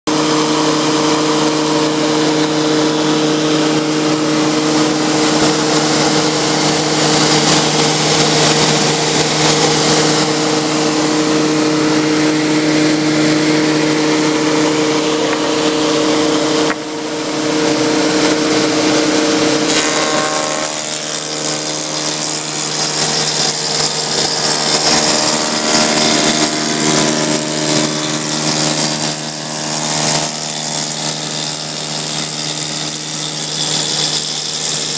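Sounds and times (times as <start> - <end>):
woodworking machine whirring: 0.1 - 34.9.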